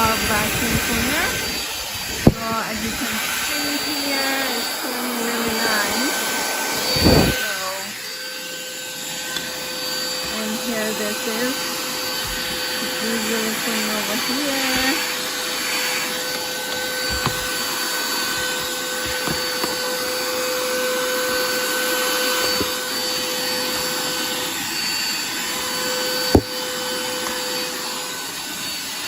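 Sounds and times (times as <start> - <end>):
handheld vacuum cleaner running: 0.0 - 29.0.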